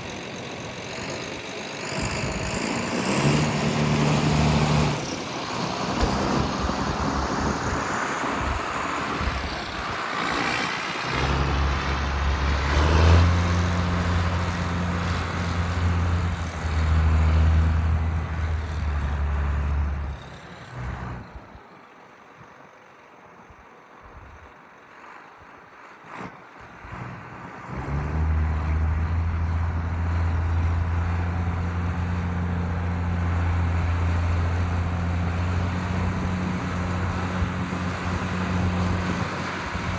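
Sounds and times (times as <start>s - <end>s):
tractor diesel engine droning: 0.0s - 21.8s, 26.5s - 39.9s.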